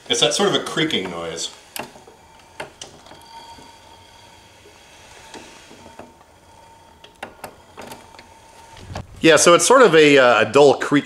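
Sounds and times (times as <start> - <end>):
wheelchair suspension creaking: 0.0 - 10.0.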